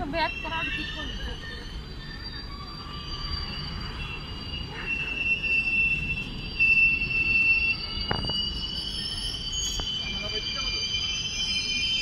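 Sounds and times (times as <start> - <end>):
train wheels squealing: 0.0 - 12.0.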